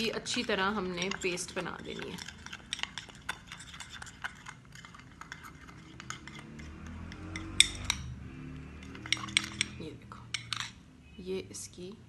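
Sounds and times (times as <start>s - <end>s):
spoon scraping ceramic bowl: 0.0s - 10.8s.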